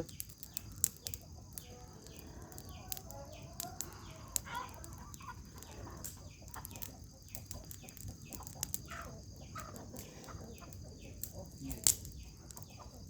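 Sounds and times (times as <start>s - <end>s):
bonfire crackling and snapping: 0.0s - 13.0s
chickens clucking: 0.0s - 13.0s.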